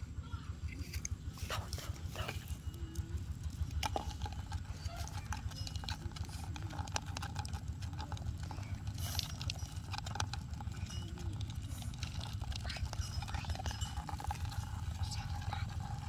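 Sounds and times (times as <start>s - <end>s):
ticks and scratches on plastic tub: 0.6s - 16.0s.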